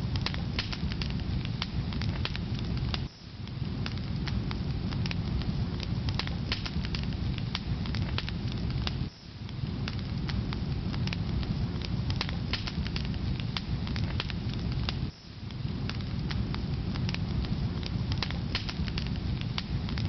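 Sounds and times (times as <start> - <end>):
firewood crackling and popping: 0.0 - 20.0
low rumble of flames: 0.0 - 20.0.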